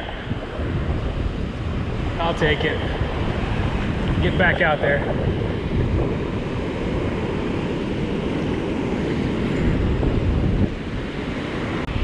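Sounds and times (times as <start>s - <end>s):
surf washing over sand: 0.0s - 12.0s
wind buffeting microphone: 0.0s - 12.0s.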